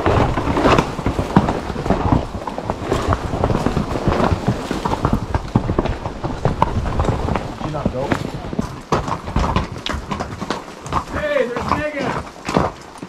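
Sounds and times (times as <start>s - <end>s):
mule hooves clopping on stone: 0.0s - 13.0s.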